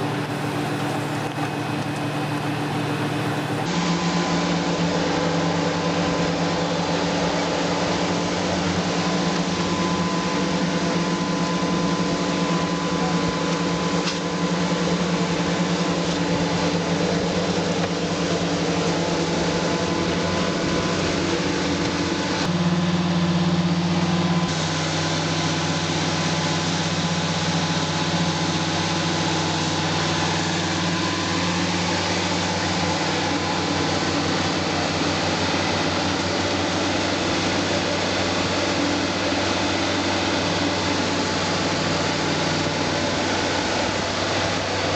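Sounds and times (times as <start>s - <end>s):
machinery engine running: 0.0s - 44.9s.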